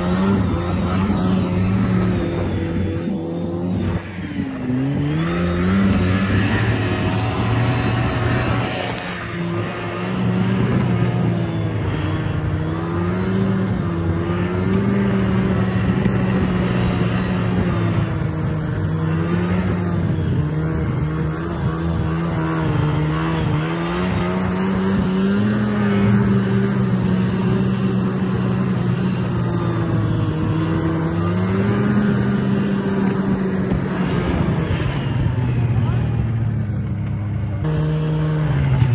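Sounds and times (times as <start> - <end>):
snowmobile engine running: 0.0 - 38.9
track and snow noise: 0.0 - 38.9.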